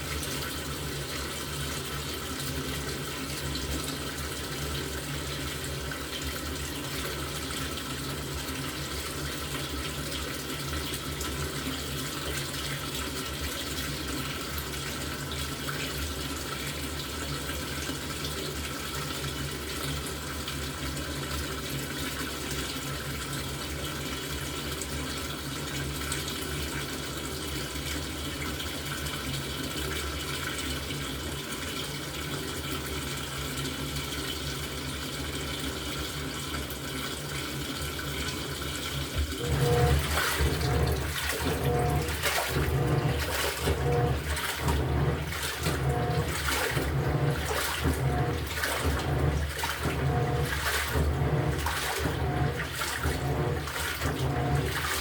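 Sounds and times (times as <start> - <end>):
water rushing into washing machine: 0.0 - 55.0.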